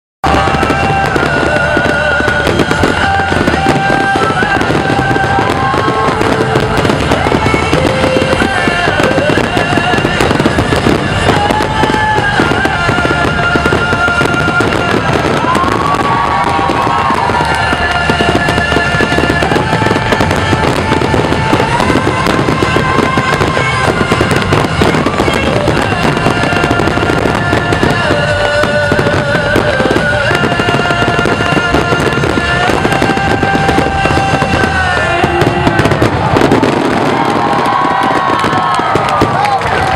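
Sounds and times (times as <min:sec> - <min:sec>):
fireworks bursting and crackling: 0:00.2 - 0:39.9
loud music with held notes: 0:00.2 - 0:39.9.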